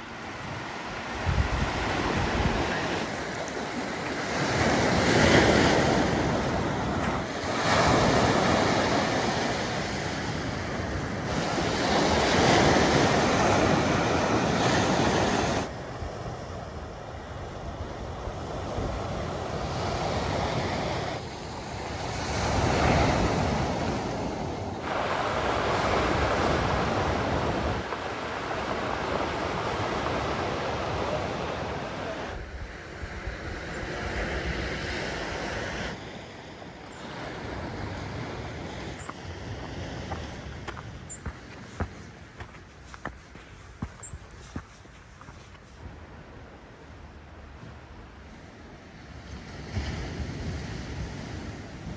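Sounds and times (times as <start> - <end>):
waves washing on pebble beach: 0.0 - 16.6, 17.9 - 45.8.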